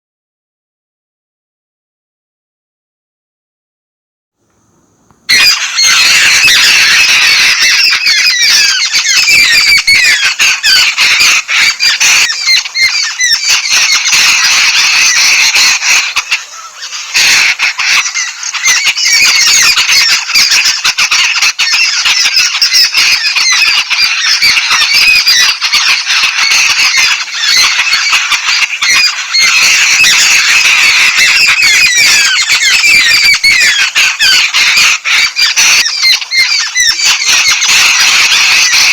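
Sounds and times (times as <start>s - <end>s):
birds chattering and squawking: 4.5s - 38.9s.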